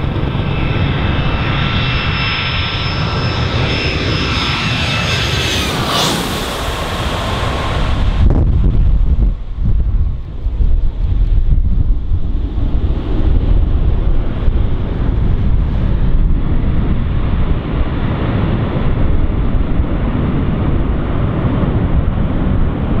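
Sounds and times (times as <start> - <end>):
jet blast buffeting microphone: 0.0 - 23.0
jet engines at takeoff thrust: 0.0 - 23.0.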